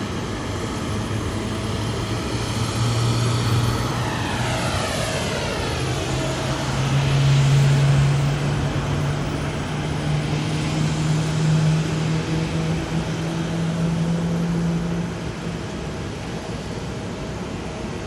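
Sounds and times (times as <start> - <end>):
jet airliner passing: 0.0 - 18.0.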